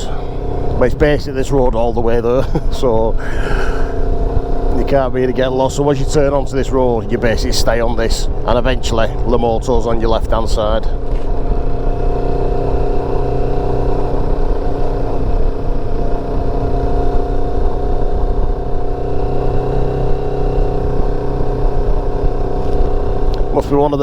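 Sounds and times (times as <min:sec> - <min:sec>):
motorcycle engine cruising: 0:00.0 - 0:24.0
road rumble: 0:00.0 - 0:24.0.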